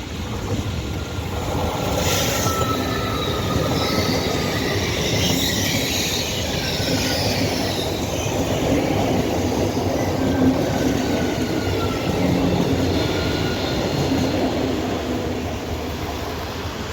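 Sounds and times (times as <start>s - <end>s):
train rumbling past: 0.0s - 16.9s
wheels squealing on rails: 0.1s - 16.9s.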